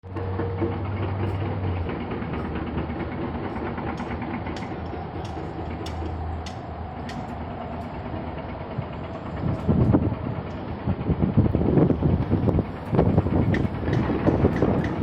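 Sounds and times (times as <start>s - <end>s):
electric tram rumbling: 0.0s - 15.0s
low hum: 0.0s - 15.0s.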